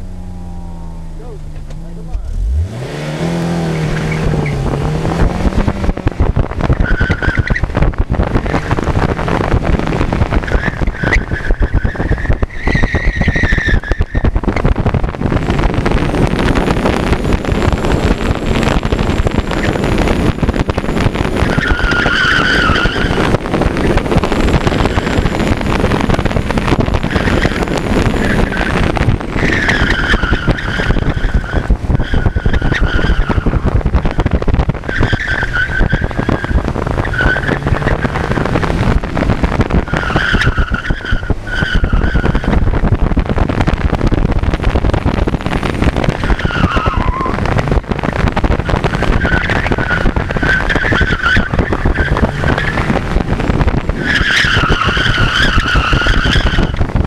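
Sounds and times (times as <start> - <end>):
car engine revving: 0.0 - 57.0
tires squealing: 0.0 - 57.0
wind and road noise: 0.0 - 57.0.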